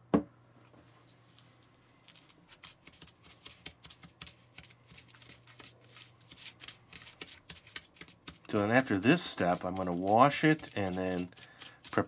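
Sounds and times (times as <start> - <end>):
dough kneading clicks and crackles: 2.1 - 12.0.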